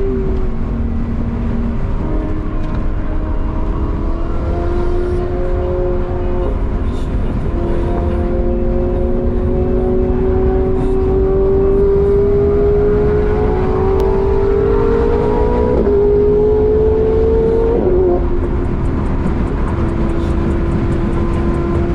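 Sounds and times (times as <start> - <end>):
car engine under load: 0.0 - 21.9
road and wind rumble: 0.0 - 21.9.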